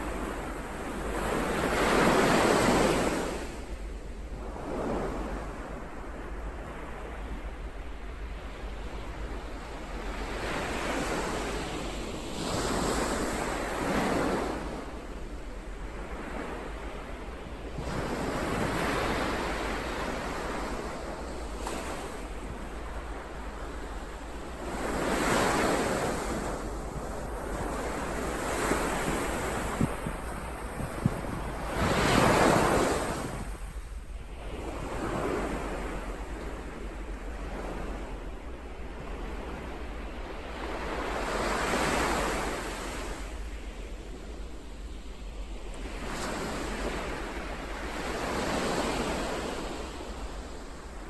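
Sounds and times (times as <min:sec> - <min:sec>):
ocean waves breaking: 0:09.8 - 0:51.0.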